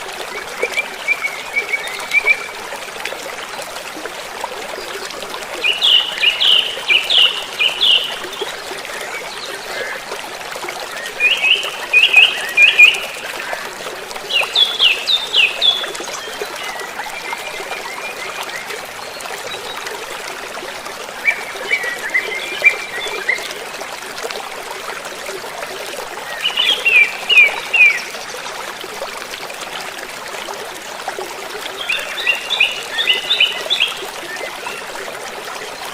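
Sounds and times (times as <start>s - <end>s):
running water trickling: 0.0s - 35.9s.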